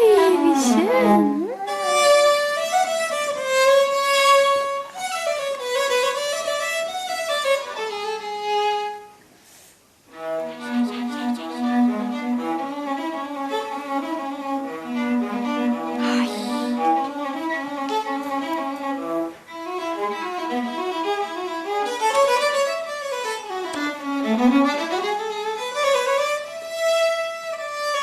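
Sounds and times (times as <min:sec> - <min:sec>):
bowed viola: 0:00.0 - 0:09.2, 0:10.1 - 0:28.0.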